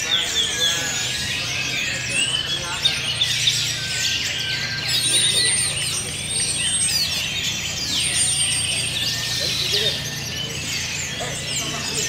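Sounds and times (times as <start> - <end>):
thrushes singing: 0.0 - 12.0.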